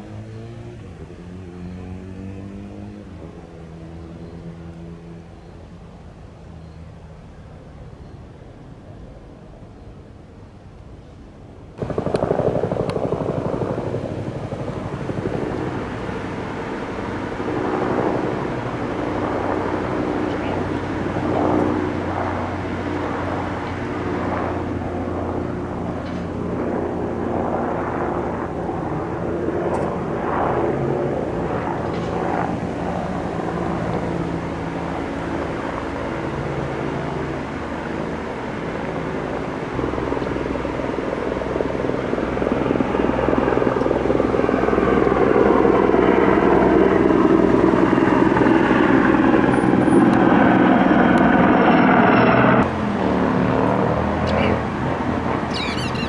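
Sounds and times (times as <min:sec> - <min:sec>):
helicopter rotor and turbine hum: 0:00.0 - 0:56.0.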